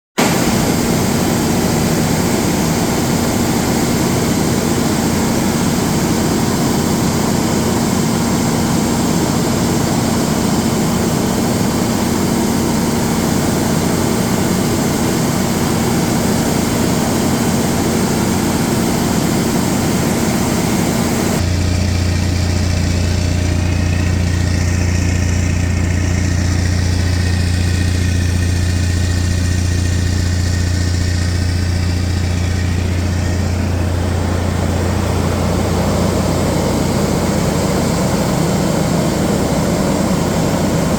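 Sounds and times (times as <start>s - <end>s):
diesel generator drone: 0.2s - 40.9s.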